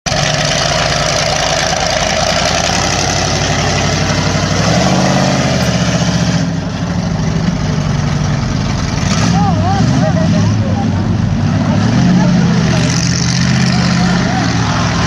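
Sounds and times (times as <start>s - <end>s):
truck engine idling: 0.1s - 15.0s.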